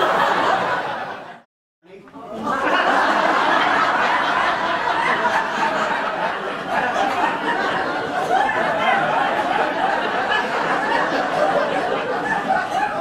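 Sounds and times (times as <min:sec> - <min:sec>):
audience laughing: 0:00.0 - 0:01.5, 0:02.3 - 0:13.0.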